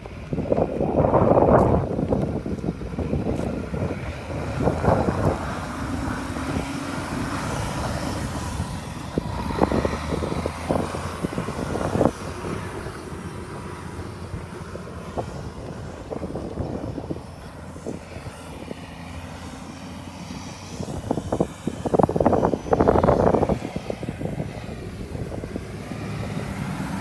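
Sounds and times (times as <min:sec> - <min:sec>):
truck diesel engine: 0:00.0 - 0:27.0
wind buffeting microphone: 0:00.0 - 0:27.0.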